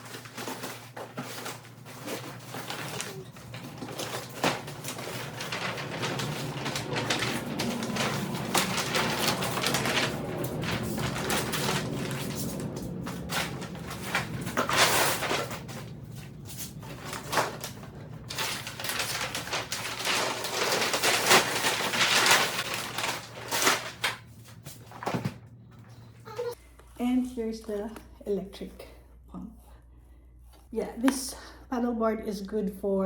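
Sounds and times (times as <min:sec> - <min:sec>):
gear rustling and knocking: 0:00.0 - 0:26.5.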